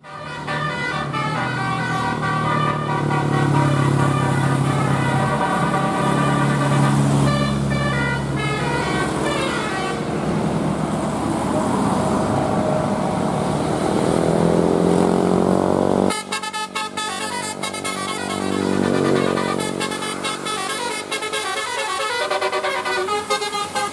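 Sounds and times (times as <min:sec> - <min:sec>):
bus musical horn: 0:00.0 - 0:14.2, 0:15.9 - 0:23.9
bus engine hum: 0:00.0 - 0:23.9.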